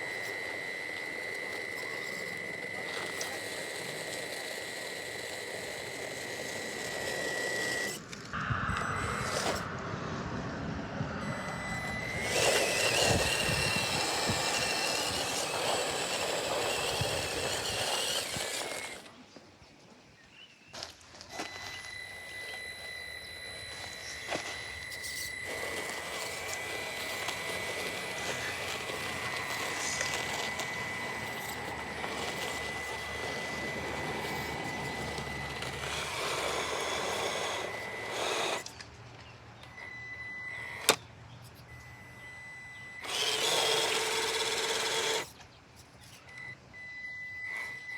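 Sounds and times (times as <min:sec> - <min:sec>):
toy car motor whining: 0:00.0 - 0:09.8, 0:11.2 - 0:19.4, 0:20.8 - 0:39.0, 0:39.6 - 0:47.9.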